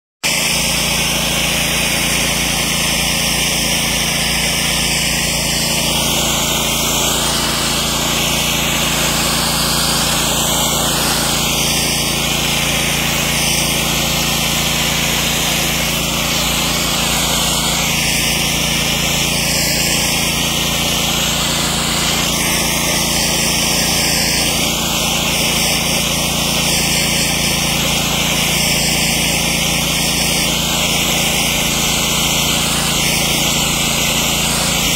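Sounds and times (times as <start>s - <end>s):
hose water jetting onto concrete: 0.2s - 34.9s
motor humming: 0.2s - 34.9s.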